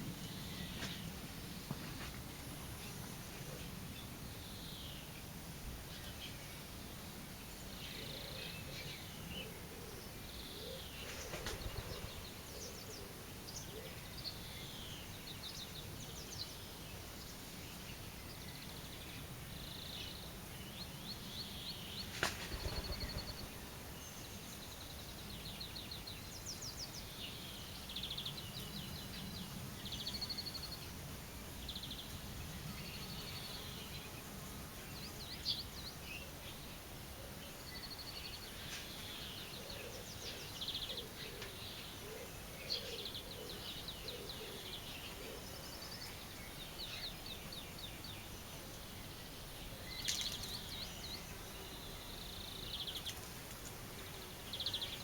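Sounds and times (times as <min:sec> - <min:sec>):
outdoor background hiss: 0:00.0 - 0:55.0
songbirds chirping and trilling: 0:00.0 - 0:55.0.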